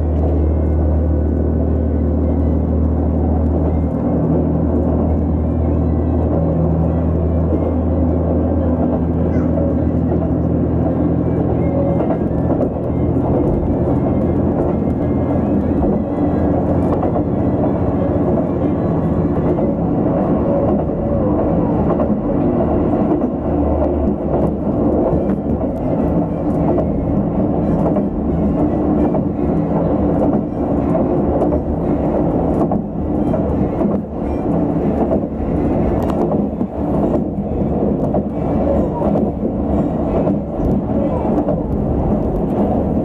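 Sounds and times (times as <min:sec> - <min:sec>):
diesel engine drone: 0:00.0 - 0:43.0
wheels rumbling on rails: 0:00.0 - 0:43.0.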